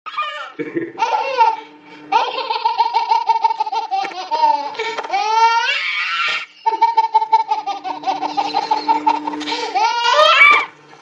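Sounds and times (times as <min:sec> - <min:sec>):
baby laughing hysterically: 0:00.1 - 0:10.5.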